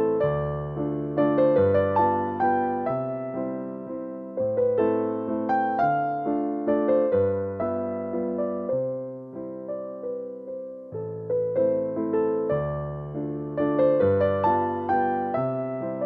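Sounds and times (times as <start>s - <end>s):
calm piano music: 0.0s - 16.0s.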